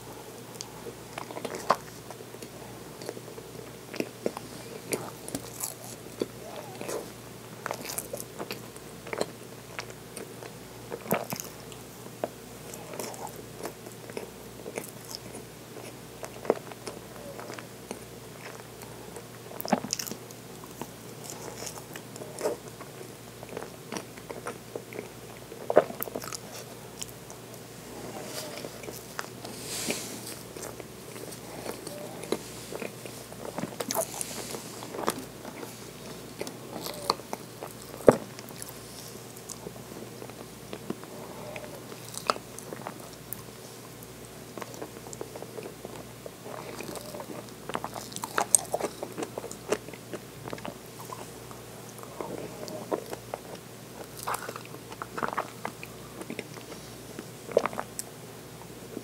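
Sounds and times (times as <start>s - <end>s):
wet chewing noises: 0.0s - 59.0s.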